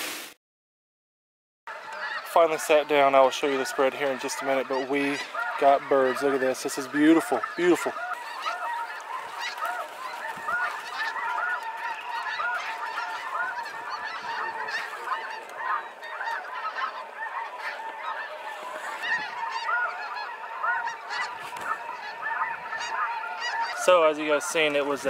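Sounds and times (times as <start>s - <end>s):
flock of geese honking: 1.7s - 25.0s.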